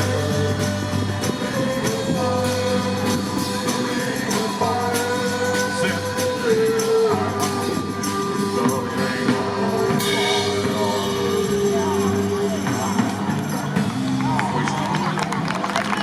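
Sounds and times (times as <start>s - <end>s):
person singing: 0.0s - 13.6s
live band music: 0.0s - 15.6s
steady percussion beat: 0.0s - 15.6s.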